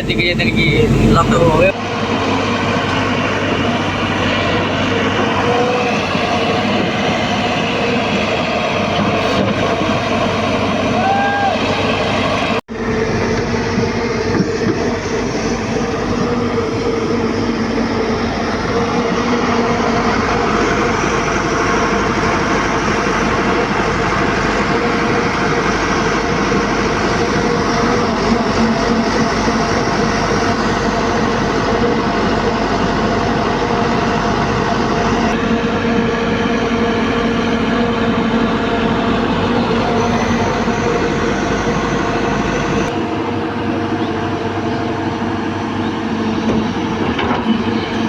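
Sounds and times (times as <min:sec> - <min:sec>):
diesel machinery droning: 0:00.0 - 0:48.0.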